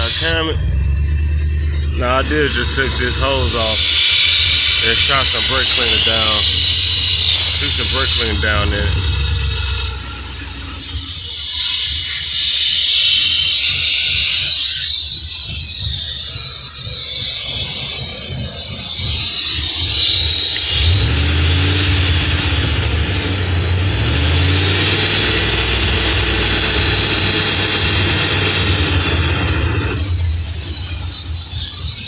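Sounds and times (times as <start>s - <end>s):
car engine uneven idle: 0.0s - 14.0s, 14.6s - 32.0s
fast rhythmic high-pitched squeak: 0.0s - 32.0s
hiss: 2.2s - 15.7s, 16.4s - 30.2s.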